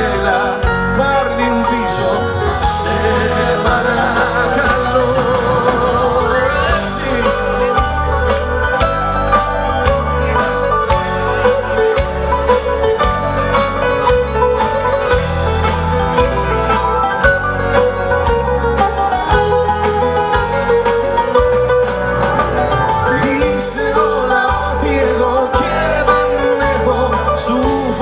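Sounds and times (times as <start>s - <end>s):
plucked-string lead: 0.0s - 28.0s
pulsing bass: 0.0s - 28.0s
steady drum beat: 0.0s - 28.0s.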